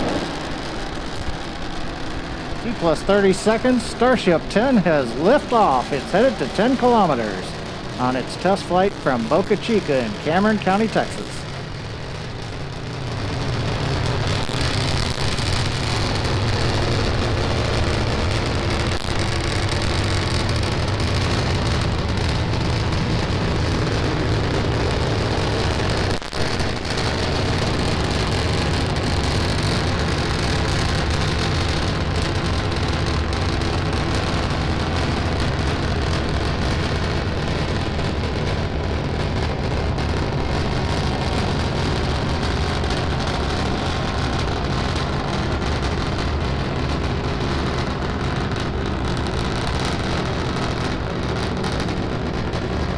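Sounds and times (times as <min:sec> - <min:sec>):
rocket engines roaring: 0:00.0 - 0:52.9.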